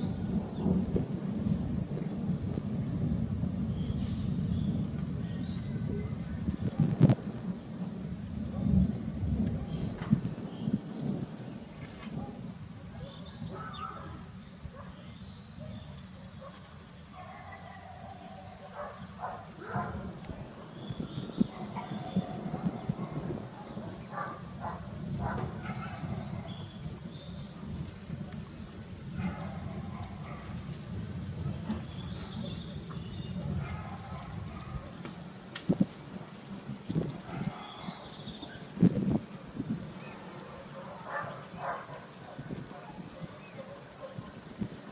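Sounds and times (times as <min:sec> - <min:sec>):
wind rumbling: 0:00.0 - 0:14.8, 0:15.4 - 0:44.9
cricket chirping: 0:00.0 - 0:44.9.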